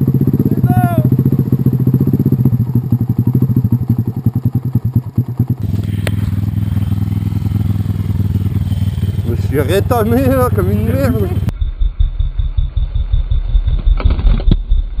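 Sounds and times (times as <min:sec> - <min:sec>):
dirt bike engine idling: 0:00.0 - 0:13.7.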